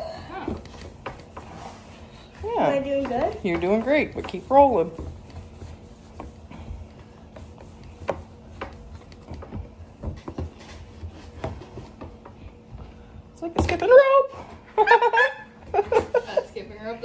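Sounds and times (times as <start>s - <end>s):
hands rolling dough on counter: 0.0s - 17.0s.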